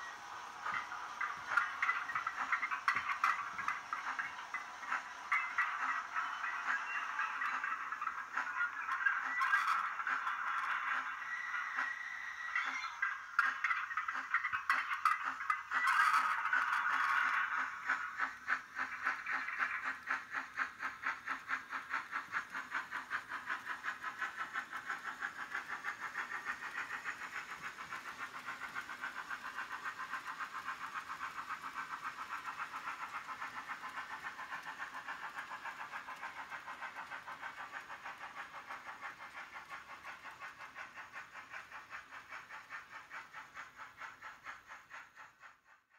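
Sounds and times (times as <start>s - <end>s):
model train running on track: 0.0s - 45.9s.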